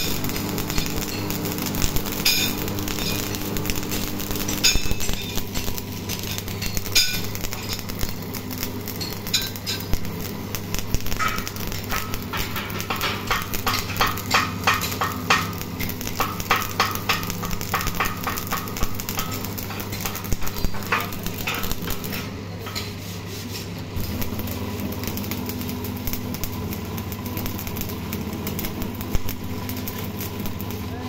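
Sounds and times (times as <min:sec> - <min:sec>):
steady low hum: 0:00.0 - 0:31.0
welding arc crackling and popping: 0:00.0 - 0:31.0.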